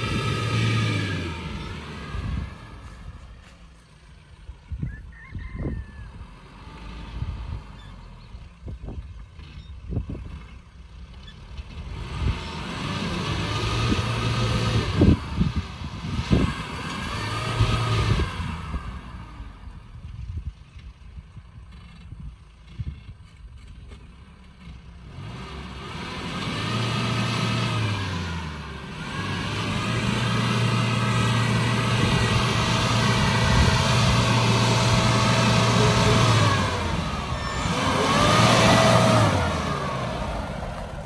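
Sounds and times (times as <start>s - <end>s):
diesel engine revving: 0.0s - 4.8s, 5.6s - 41.0s.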